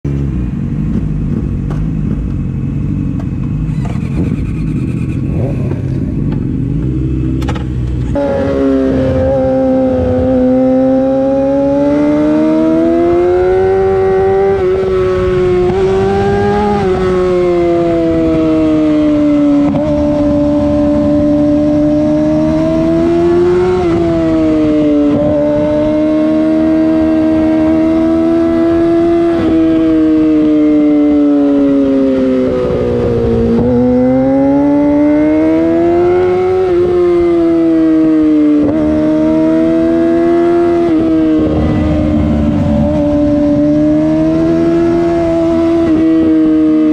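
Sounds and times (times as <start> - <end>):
motorcycle engine revving: 0.1 - 46.9.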